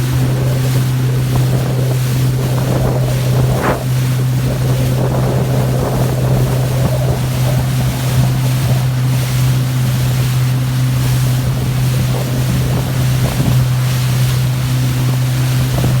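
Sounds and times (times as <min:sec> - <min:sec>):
motorboat engine droning: 0:00.0 - 0:16.0
water rushing past hull: 0:00.0 - 0:16.0
wind buffeting microphone: 0:00.0 - 0:16.0.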